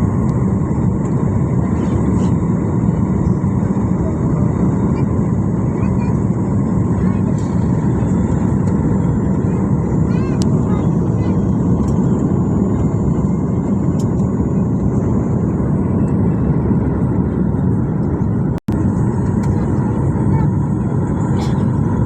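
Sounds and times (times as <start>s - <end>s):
jet engines droning: 0.0s - 22.0s
rushing air in cabin: 0.0s - 22.0s.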